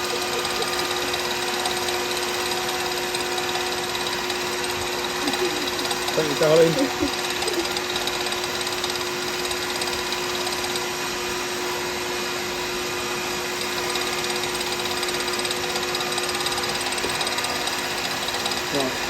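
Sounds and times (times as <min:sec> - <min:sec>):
lathe motor humming with hiss: 0:00.0 - 0:19.0.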